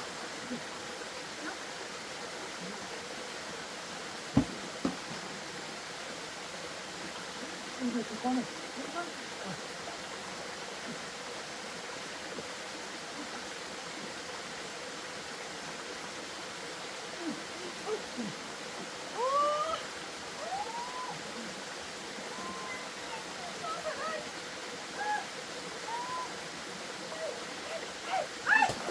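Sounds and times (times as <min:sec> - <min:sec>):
flowing water rushing: 0:00.0 - 0:28.9.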